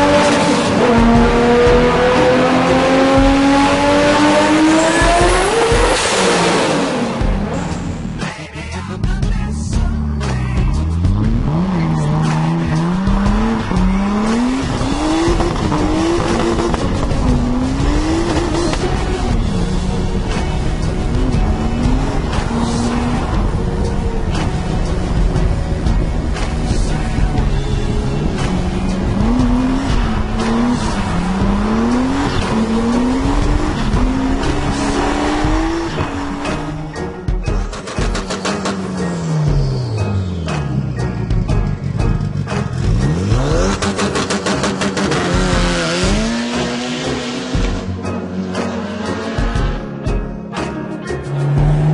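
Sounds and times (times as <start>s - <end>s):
car engine accelerating hard: 0.0s - 8.2s, 10.9s - 37.0s, 42.5s - 49.8s, 51.3s - 51.9s.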